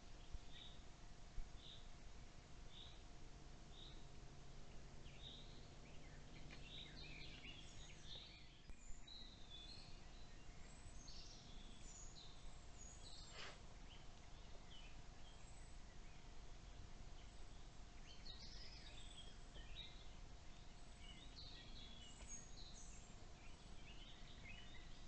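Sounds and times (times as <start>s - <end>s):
faint woodland birdsong: 0.0s - 25.0s
low background hiss: 0.0s - 25.0s.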